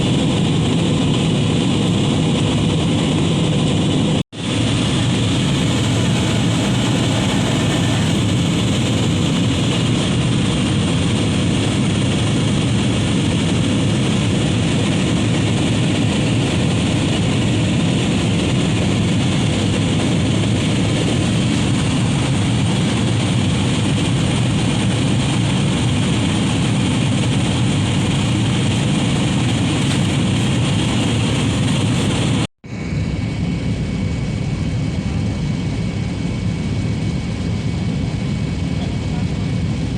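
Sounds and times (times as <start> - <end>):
airliner cabin engine roar: 0.0 - 39.9.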